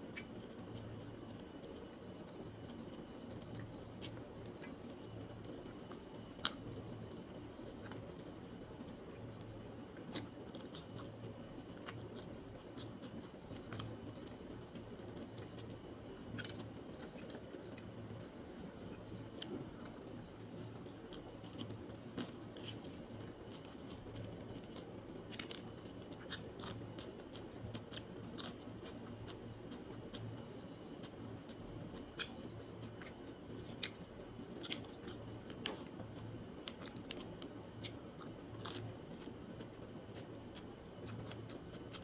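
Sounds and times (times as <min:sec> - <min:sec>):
chewing with mouth clicks: 0:00.0 - 0:42.0
low background noise: 0:00.0 - 0:42.0.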